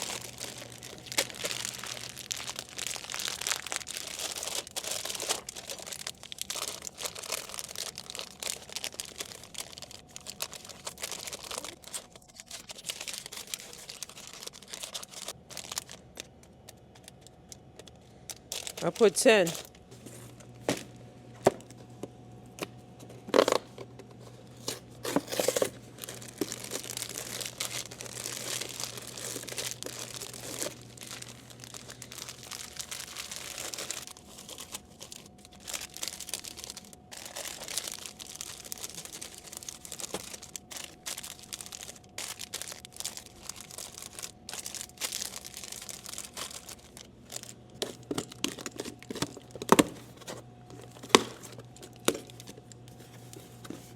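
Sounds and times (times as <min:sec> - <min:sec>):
packaging tearing: 0:00.0 - 0:19.8, 0:24.6 - 0:53.9
plastic wrappers crinkling: 0:00.0 - 0:20.5, 0:23.2 - 0:53.9.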